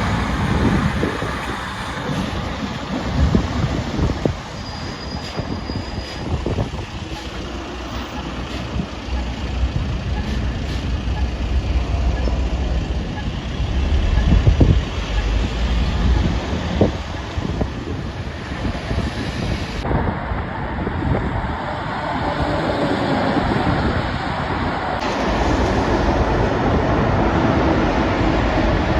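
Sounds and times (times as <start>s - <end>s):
heavy truck passing: 0.0s - 28.9s
wind on microphone: 0.0s - 28.9s.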